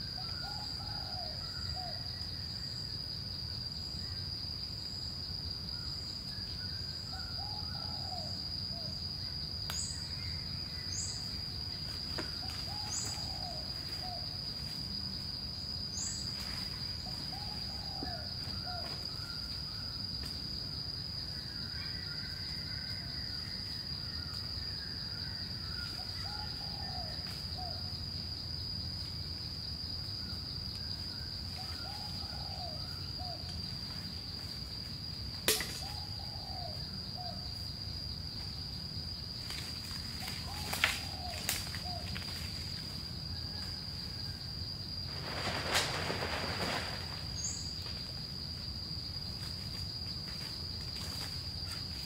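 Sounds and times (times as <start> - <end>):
insect high-pitched drone: 0.0 - 52.0.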